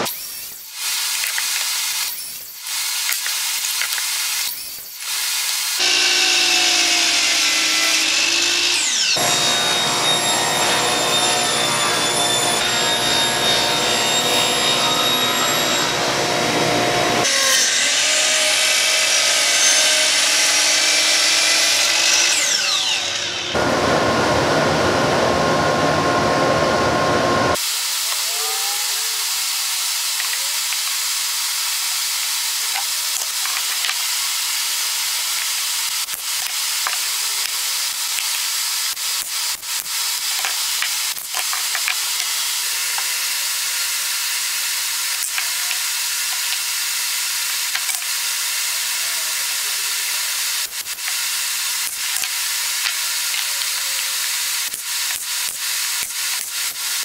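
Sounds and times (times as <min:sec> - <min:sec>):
table saw cutting plywood: 0:00.0 - 0:26.2, 0:27.3 - 0:57.0.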